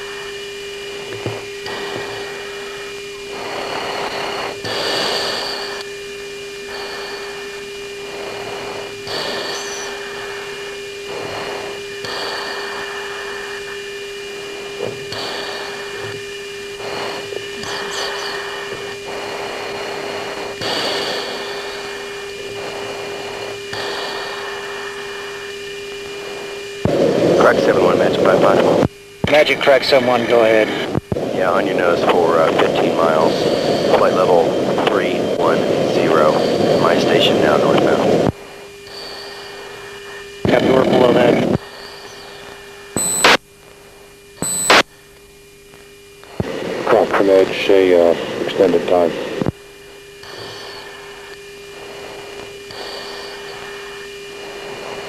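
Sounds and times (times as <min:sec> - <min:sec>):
radio static bursts: 0:00.0 - 0:55.0
steady hum tone: 0:00.0 - 0:55.0.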